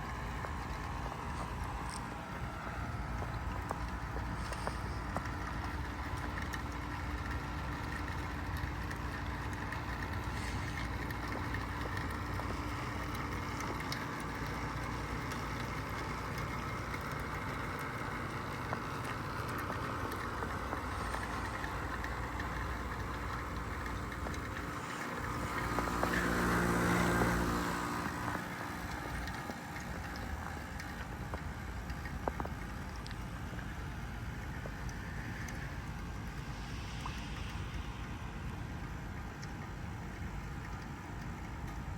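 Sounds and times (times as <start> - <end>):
heat pump mechanical hum: 0.0 - 41.9.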